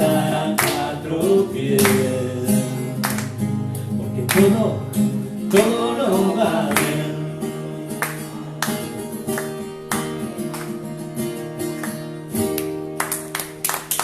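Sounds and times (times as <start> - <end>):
acoustic guitar strumming chords: 0.0 - 13.6.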